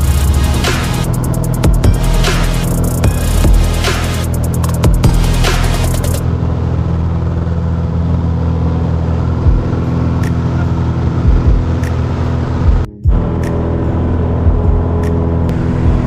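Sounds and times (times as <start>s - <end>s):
aircraft piston engine running: 0.0s - 16.0s.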